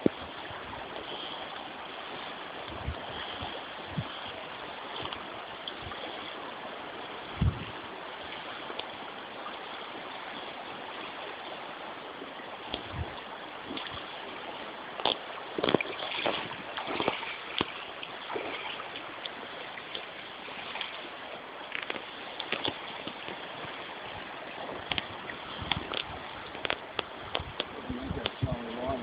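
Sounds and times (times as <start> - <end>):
river current rushing: 0.0 - 29.0.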